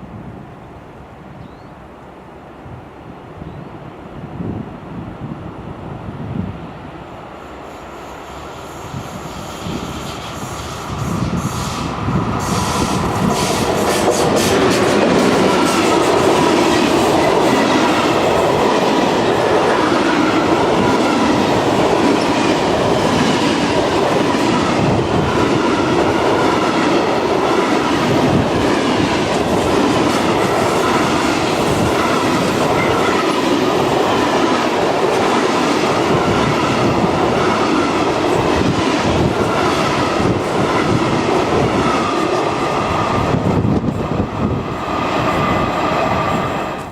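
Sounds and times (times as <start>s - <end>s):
train wheels clattering: 9.3s - 46.9s.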